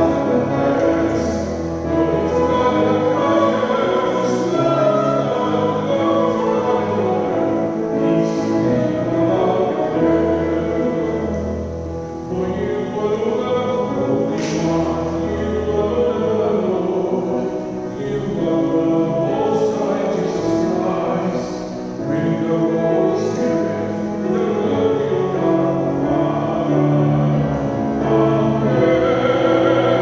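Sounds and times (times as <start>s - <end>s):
church choir singing: 0.0s - 30.0s.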